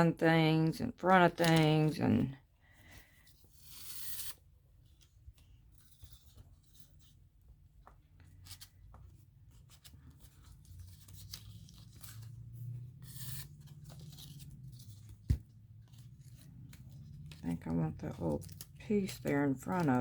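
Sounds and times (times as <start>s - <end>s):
paper rustling and crinkling: 1.2s - 20.0s.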